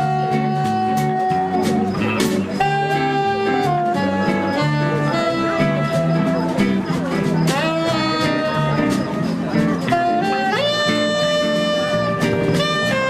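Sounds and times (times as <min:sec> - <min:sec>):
small jazz band playing: 0:00.0 - 0:13.0.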